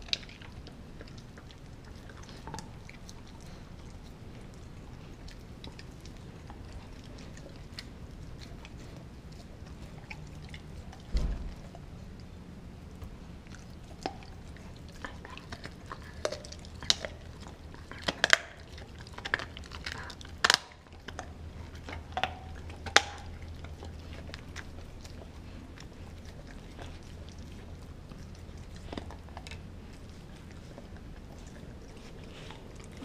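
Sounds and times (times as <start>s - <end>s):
dog chewing frozen bone: 0.0s - 33.0s.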